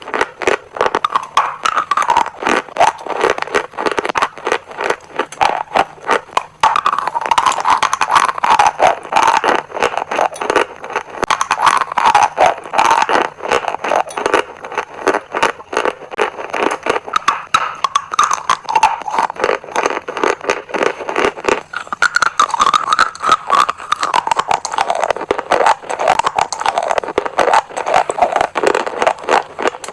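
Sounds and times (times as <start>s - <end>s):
chalk being chewed: 0.0s - 29.9s.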